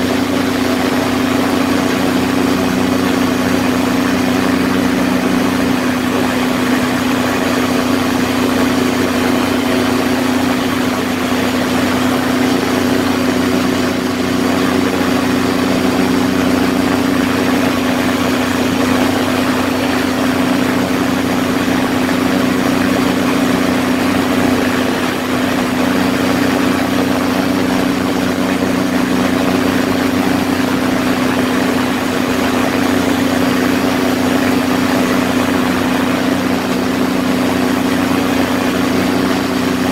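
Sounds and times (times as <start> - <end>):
ultralight engine humming: 0.0 - 39.9.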